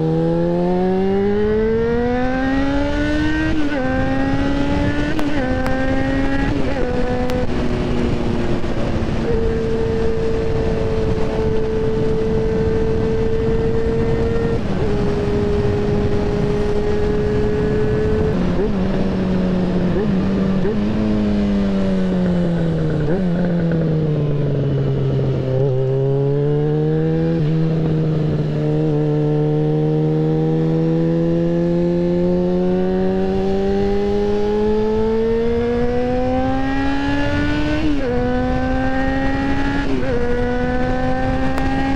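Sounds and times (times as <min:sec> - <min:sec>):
motorcycle engine revving: 0:00.0 - 0:41.9
wind rush: 0:00.8 - 0:41.9.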